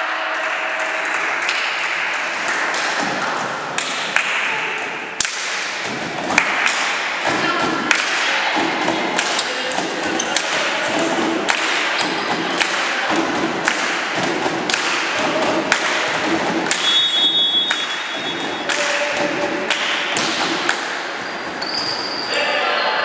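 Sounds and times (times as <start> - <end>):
sports hall background noise: 0.0 - 23.0
volleyball bouncing on wooden floor: 2.8 - 22.2.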